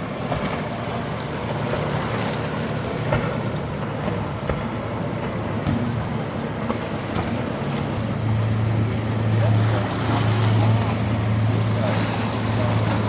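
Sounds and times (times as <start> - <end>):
boat engine low drone: 0.0 - 13.0
rolling surf: 0.0 - 13.0.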